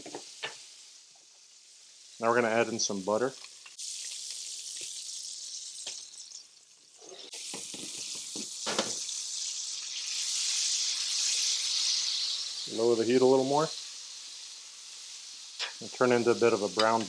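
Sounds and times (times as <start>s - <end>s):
garlic sizzling in a skillet: 0.0s - 17.0s.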